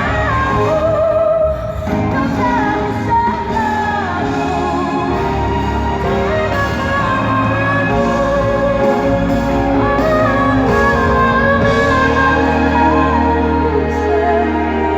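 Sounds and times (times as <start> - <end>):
live band playing: 0.0 - 14.9
woman singing with vibrato: 0.0 - 14.9.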